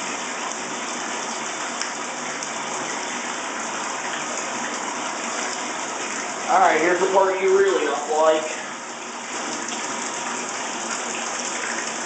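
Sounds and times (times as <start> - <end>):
water running into bathtub: 0.0 - 12.0.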